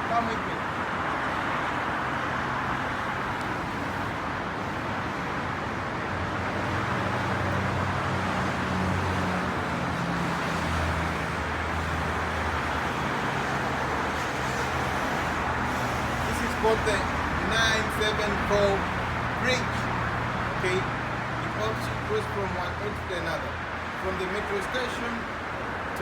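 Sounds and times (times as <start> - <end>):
heavy vehicle engine hum: 0.0 - 26.0
highway traffic roar: 0.0 - 26.0.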